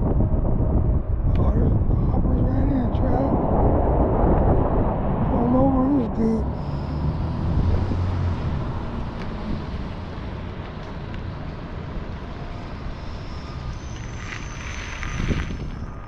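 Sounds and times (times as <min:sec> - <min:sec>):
street traffic: 0:00.0 - 0:16.0
wind on microphone: 0:00.0 - 0:16.0.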